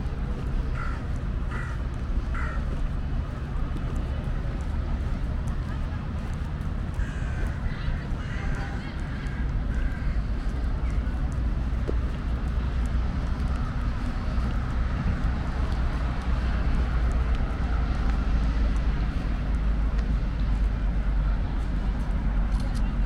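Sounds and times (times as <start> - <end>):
city road traffic rumble: 0.0 - 23.0.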